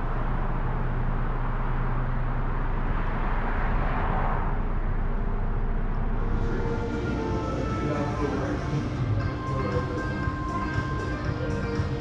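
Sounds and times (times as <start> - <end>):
low hum: 0.0 - 12.0
vehicle rumbling: 0.0 - 12.0.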